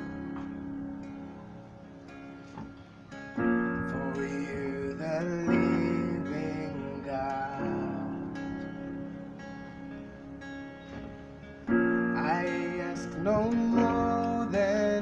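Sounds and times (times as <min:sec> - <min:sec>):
acoustic guitar: 0:00.0 - 0:15.0
electronic keyboard chords: 0:00.0 - 0:15.0.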